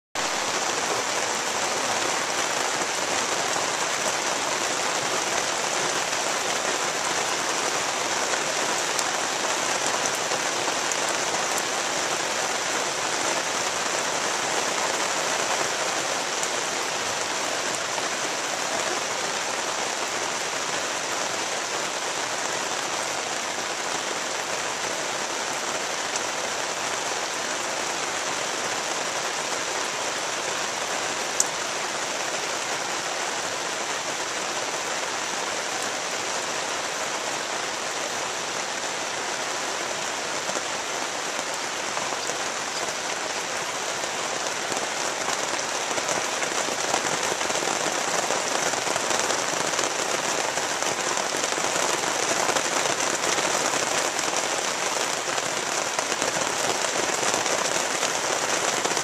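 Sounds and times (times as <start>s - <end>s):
steady rain: 0.2s - 59.0s.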